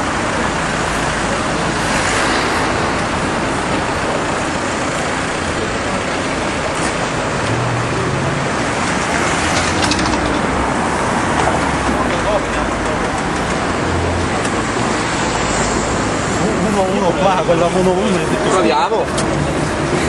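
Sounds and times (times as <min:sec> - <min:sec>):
cars driving past: 0:00.0 - 0:20.0.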